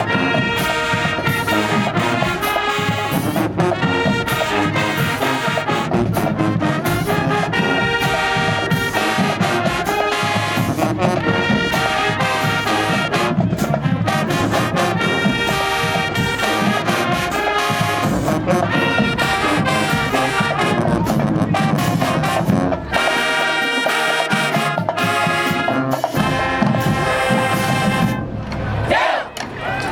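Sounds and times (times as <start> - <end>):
steady drum beat: 0.0 - 28.4
marching band playing: 0.0 - 29.9
trombones and trumpets: 0.0 - 29.9.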